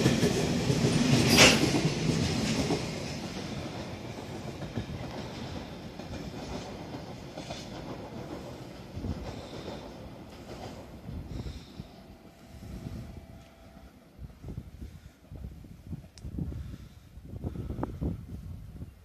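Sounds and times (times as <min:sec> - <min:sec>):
freight train wagons rolling past: 0:00.0 - 0:17.7.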